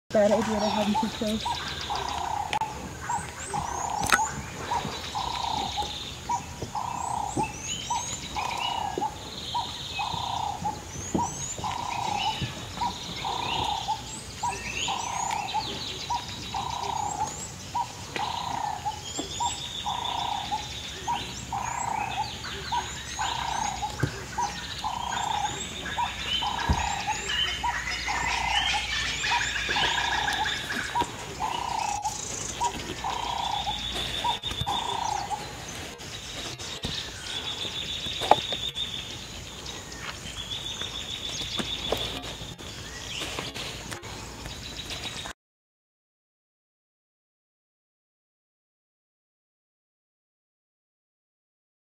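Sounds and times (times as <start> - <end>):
birds chirping and whistling: 0.1 - 45.3.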